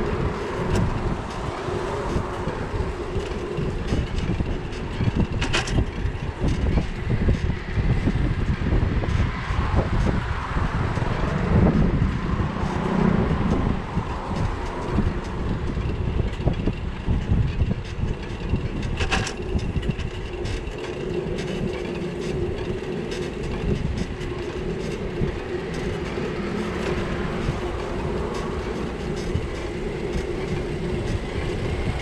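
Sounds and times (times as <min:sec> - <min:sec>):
bike knocks and rattles: 0:00.0 - 0:32.0
tyre noise on wet street: 0:00.0 - 0:32.0
wind rumble on camera: 0:00.0 - 0:32.0.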